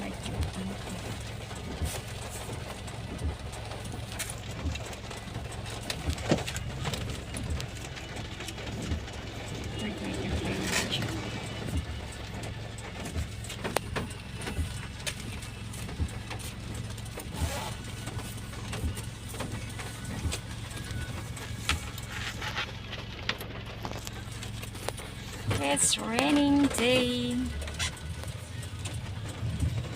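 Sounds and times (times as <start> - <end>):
vehicle engine drone: 0.0 - 29.9.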